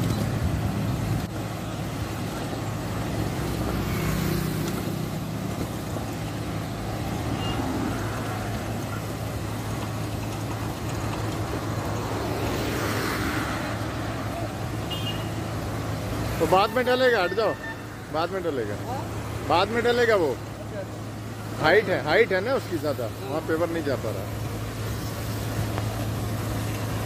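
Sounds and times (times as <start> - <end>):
diesel engine running: 0.0 - 27.0
road traffic passing: 0.0 - 27.0.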